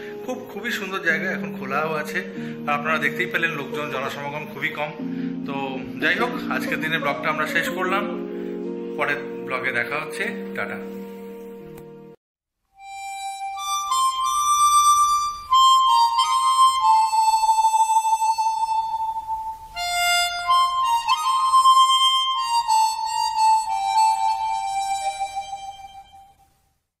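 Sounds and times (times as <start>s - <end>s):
harmonica slow melody: 0.0s - 26.7s.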